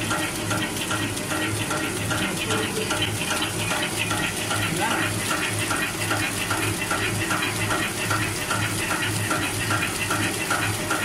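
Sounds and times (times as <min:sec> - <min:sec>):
packing machine wrapping cycle: 0:00.0 - 0:11.0
steady motor hum: 0:00.0 - 0:11.0.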